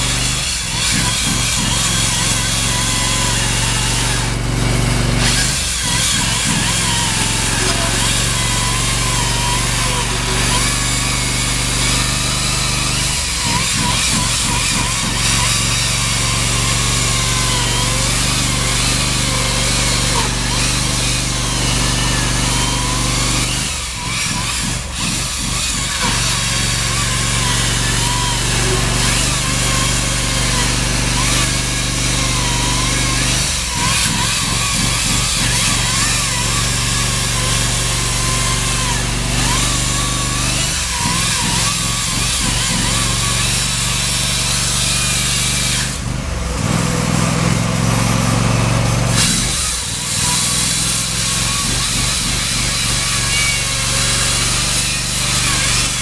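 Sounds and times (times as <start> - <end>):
chainsaw cutting concrete: 0.0 - 56.0.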